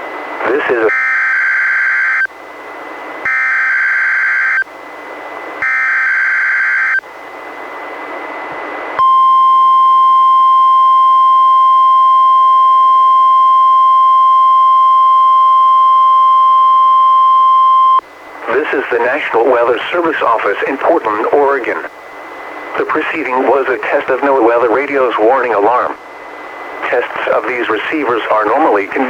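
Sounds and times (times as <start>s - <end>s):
receiver hiss: 0.0s - 29.0s
steady warning alarm tone: 0.5s - 7.7s, 9.0s - 29.0s.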